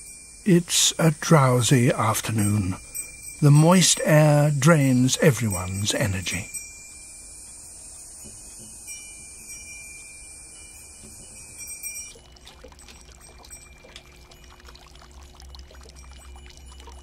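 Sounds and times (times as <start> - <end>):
insects droning: 0.0 - 17.0
water trickling into pool: 0.0 - 17.0.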